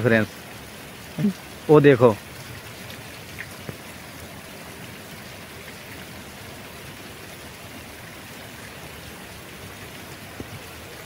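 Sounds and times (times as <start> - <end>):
floodwater rushing over stones: 0.0 - 11.0
steady rain falling: 0.0 - 11.0.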